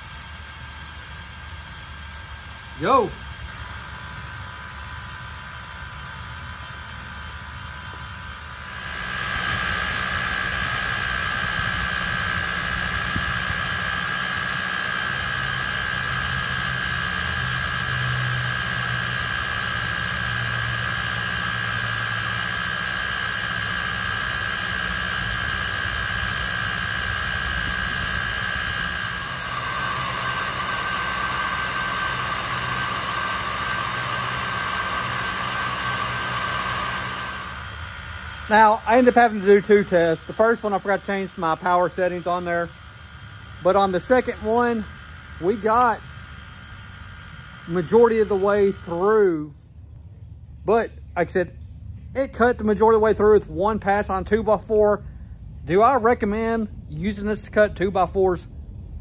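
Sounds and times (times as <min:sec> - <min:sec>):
laser cutter fans hissing and whining: 0:00.0 - 0:49.5.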